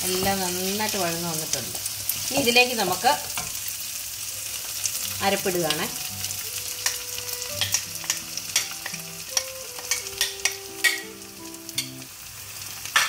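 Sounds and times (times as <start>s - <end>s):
masala sizzling in a pan: 0.0s - 13.0s.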